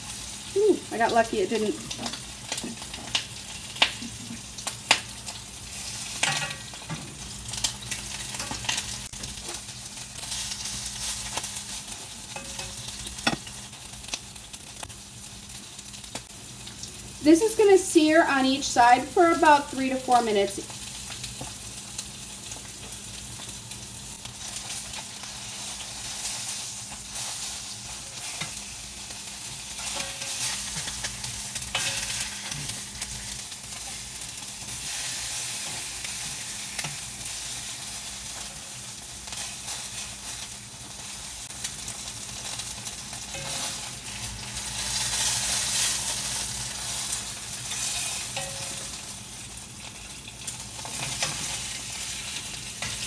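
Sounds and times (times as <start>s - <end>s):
chicken sizzling in oil: 0.0s - 53.0s.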